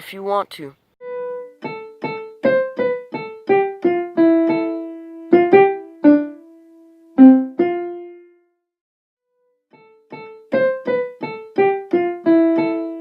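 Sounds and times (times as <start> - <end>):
piano-like keyboard melody: 1.0 - 8.4, 9.7 - 13.0.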